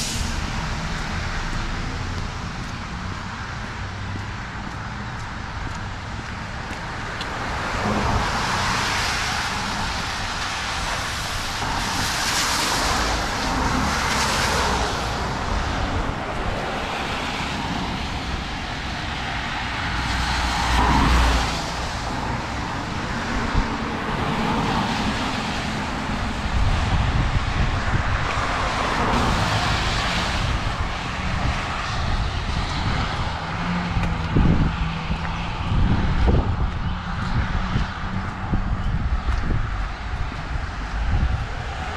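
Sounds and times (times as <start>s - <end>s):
cars passing on wet road: 0.0s - 41.9s
wind rumble on microphone: 0.0s - 41.9s.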